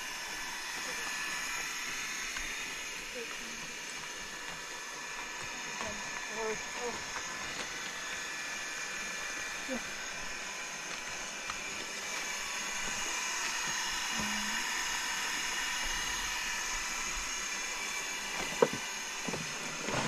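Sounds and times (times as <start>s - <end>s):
small motor whirring: 0.0s - 20.0s.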